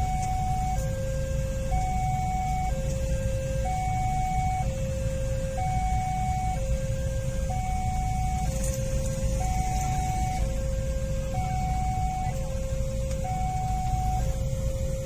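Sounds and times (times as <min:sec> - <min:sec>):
motorbike engines idling: 0:00.0 - 0:15.0
traffic rumble: 0:00.0 - 0:15.0
two-tone crossing alarm: 0:00.0 - 0:15.0.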